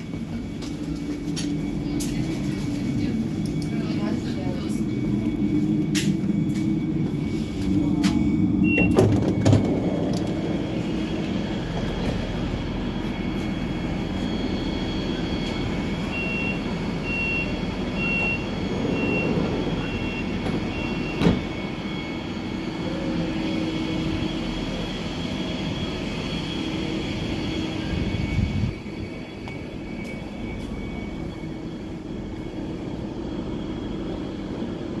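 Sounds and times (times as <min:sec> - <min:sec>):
train door warning beeps: 0:00.0 - 0:33.2
train steady hum: 0:00.0 - 0:35.0.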